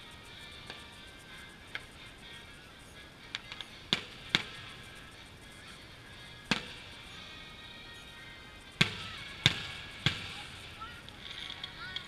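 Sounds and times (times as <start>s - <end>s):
firework shells bursting: 0.2s - 12.0s.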